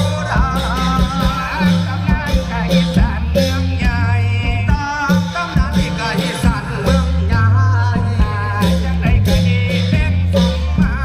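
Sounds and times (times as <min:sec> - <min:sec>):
drum beat: 0:00.0 - 0:11.0
sustained bass notes: 0:00.0 - 0:11.0.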